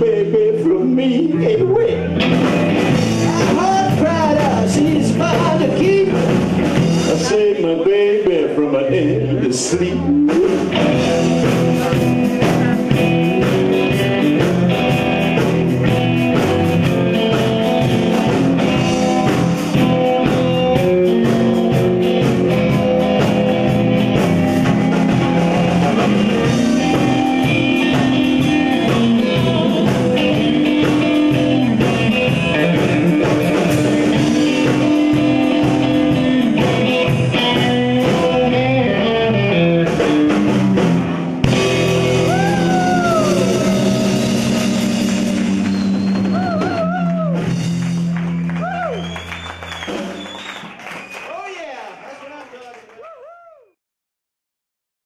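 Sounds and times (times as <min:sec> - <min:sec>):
electric guitar notes: 0:00.0 - 0:07.6, 0:09.0 - 0:50.8
steady drum beat: 0:02.1 - 0:07.6, 0:10.1 - 0:51.7.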